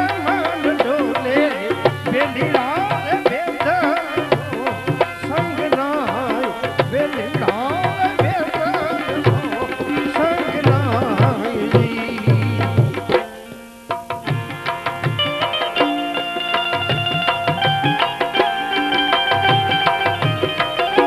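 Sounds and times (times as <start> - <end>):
tabla beat: 0.0 - 21.0.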